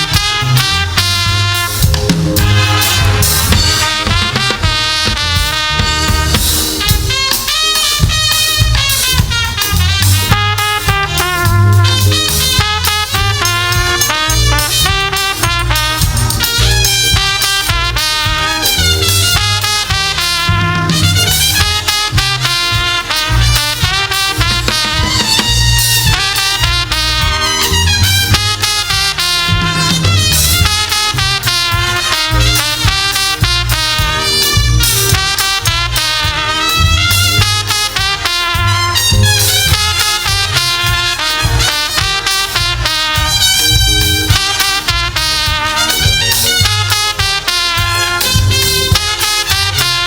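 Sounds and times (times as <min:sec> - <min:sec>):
gospel band playing: 0:00.0 - 0:50.0
horn line: 0:00.0 - 0:50.0.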